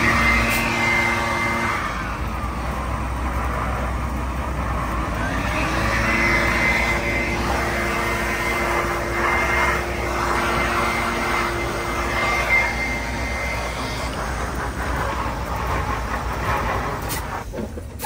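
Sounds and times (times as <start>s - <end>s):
constant whine: 0.0s - 18.0s
truck engine revving high: 0.0s - 18.0s
wheels spinning in snow: 0.0s - 18.0s.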